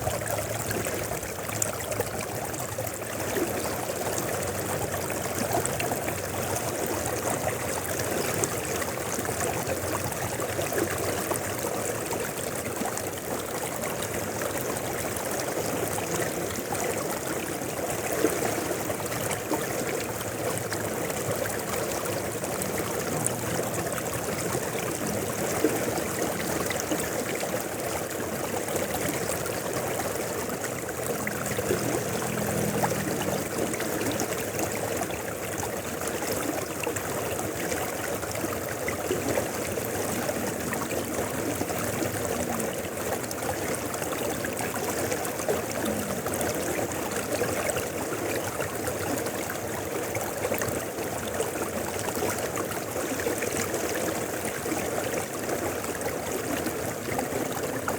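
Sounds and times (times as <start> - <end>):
river water rushing and bubbling: 0.0 - 57.9.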